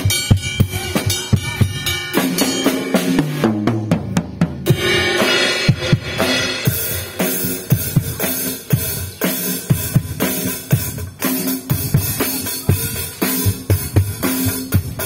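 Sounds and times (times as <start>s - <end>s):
cymbals: 0.0s - 3.6s, 4.6s - 15.0s.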